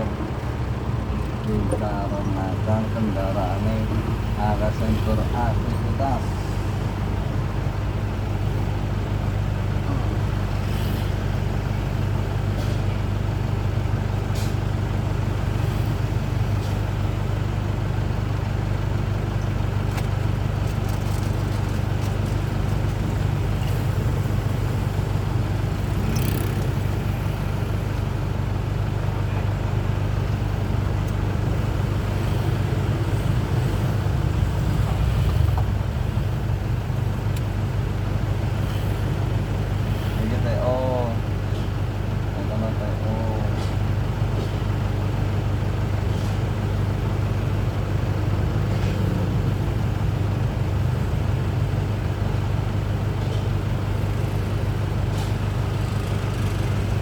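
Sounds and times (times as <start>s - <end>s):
road noise: 0.0s - 57.0s
truck diesel engine running: 0.0s - 57.0s.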